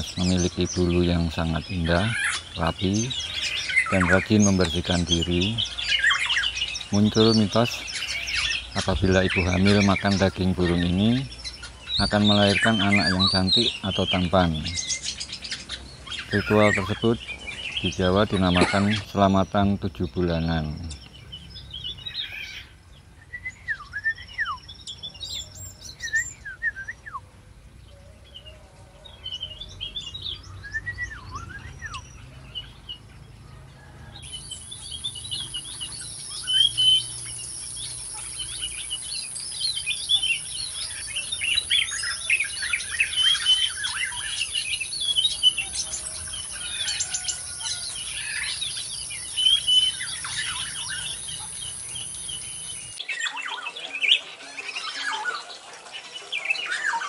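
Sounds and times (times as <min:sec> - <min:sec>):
birds whistling: 0:00.0 - 0:57.0
dense chatter of bird chirps: 0:00.0 - 0:57.0.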